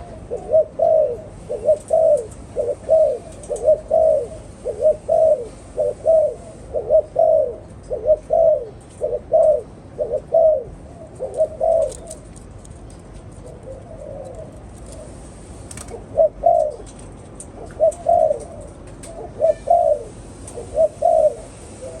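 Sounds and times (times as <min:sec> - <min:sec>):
dove cooing: 0:00.0 - 0:12.3, 0:13.3 - 0:22.0.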